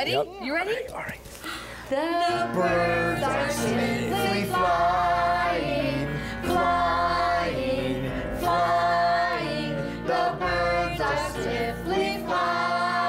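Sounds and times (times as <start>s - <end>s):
voices singing a melody: 1.9s - 13.0s.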